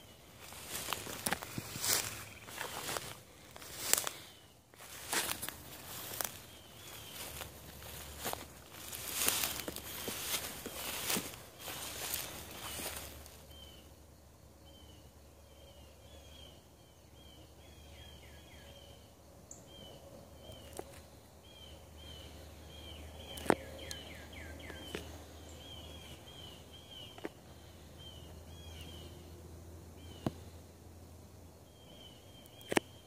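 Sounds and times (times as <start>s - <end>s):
small birds chirping: 0.0s - 30.6s, 31.6s - 33.0s.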